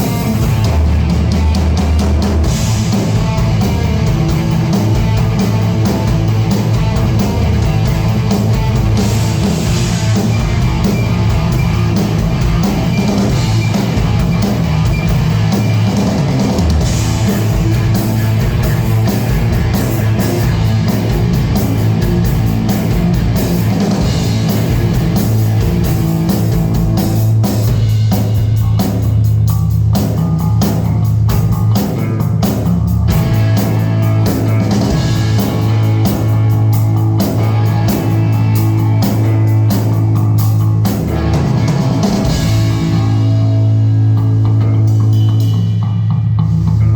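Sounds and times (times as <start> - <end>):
drum kit: 0.0 - 46.9
electric guitar: 0.0 - 46.9.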